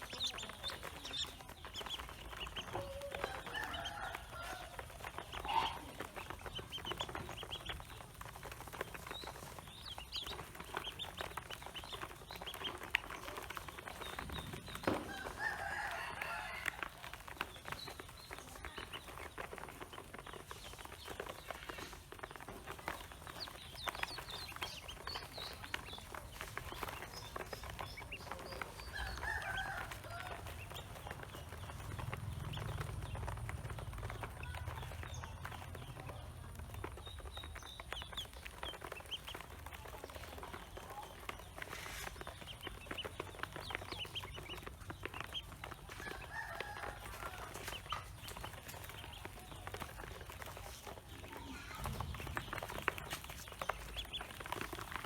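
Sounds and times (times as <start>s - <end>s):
ducklings calling: 0.0s - 55.0s.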